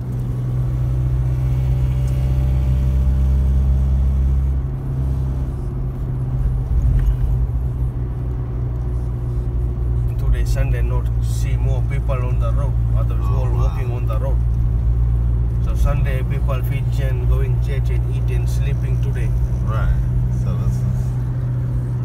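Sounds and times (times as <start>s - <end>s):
engine and road noise drone: 0.0s - 22.0s.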